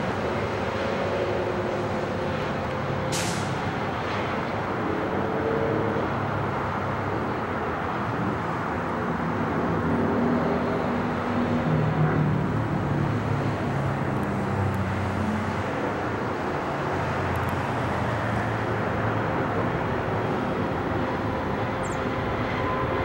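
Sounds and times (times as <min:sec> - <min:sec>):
jet airliner rumble: 0:00.0 - 0:23.0
road traffic noise: 0:00.0 - 0:23.0.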